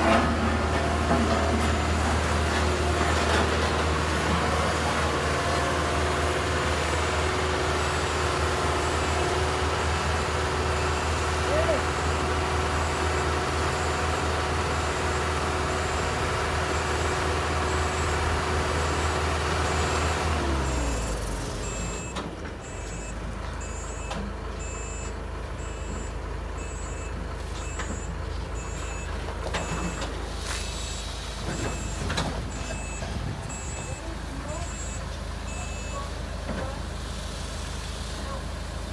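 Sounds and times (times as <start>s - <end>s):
truck reversing alarm beeping: 0.0s - 36.4s
diesel engine running: 0.0s - 38.9s.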